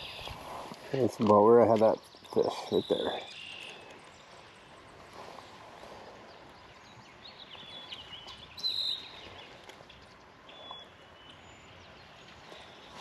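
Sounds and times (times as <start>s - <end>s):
faint outdoor ambience: 0.0s - 13.0s
small birds chirping: 0.0s - 13.0s.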